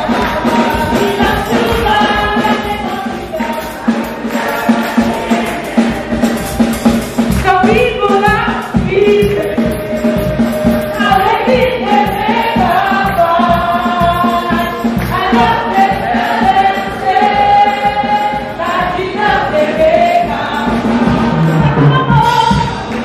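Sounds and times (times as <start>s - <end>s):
congregation singing a hymn: 0.0s - 23.0s
hand clapping steady beat: 0.0s - 23.0s.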